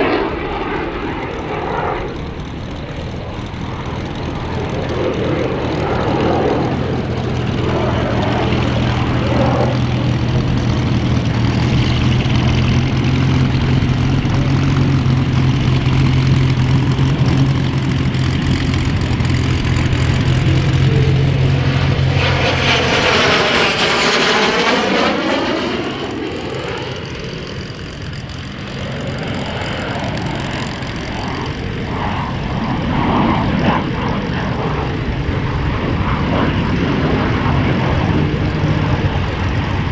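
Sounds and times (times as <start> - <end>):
jet engine drone: 0.0 - 39.9
jet flypast high-pitched roar: 0.0 - 39.9.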